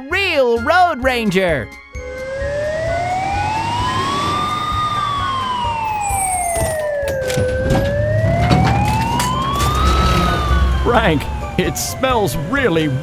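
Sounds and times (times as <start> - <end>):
ambulance siren wailing: 1.8 - 13.0.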